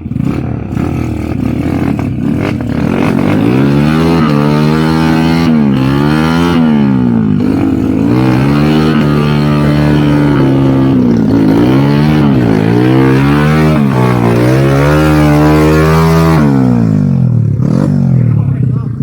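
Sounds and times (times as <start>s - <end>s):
vehicle engine running hard: 0.0s - 19.0s.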